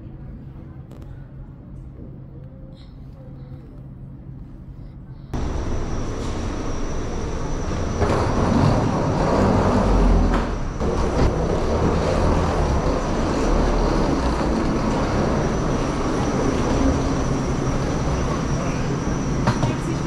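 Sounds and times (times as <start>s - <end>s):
machinery rumble and hiss: 0.1s - 20.0s.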